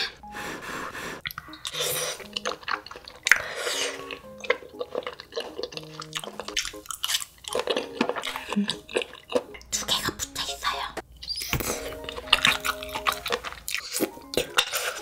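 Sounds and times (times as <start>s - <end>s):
playful plucked background music: 0.0s - 15.0s
wet chewing: 1.2s - 10.6s, 11.2s - 15.0s.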